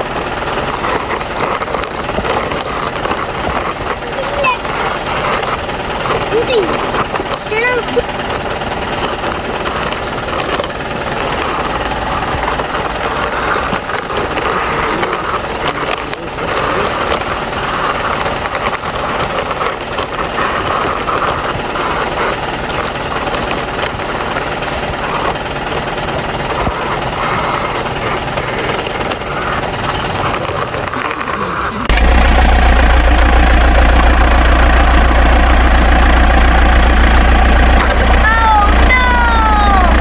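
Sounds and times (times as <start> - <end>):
small motor rattling: 0.0 - 40.0.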